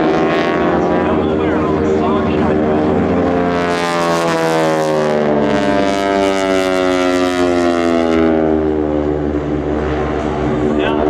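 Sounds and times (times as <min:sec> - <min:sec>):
propeller plane droning past: 0:00.0 - 0:11.0.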